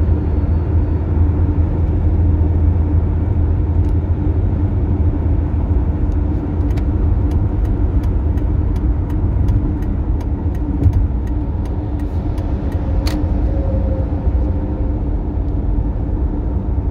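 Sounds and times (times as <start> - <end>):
car road and engine rumble: 0.0 - 16.9.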